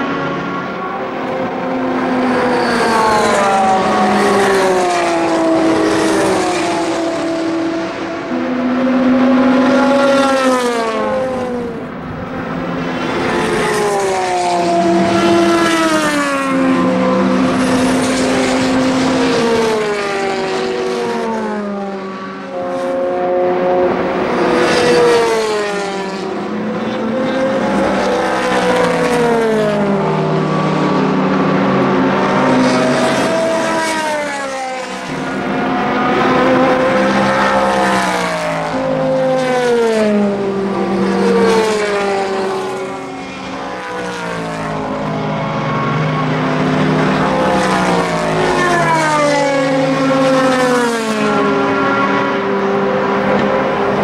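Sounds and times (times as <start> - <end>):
race cars passing by: 0.0 - 54.0.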